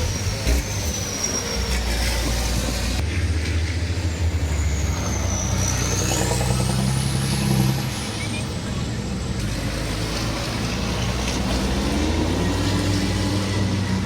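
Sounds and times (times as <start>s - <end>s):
truck engines rumbling and whining: 0.0s - 14.0s.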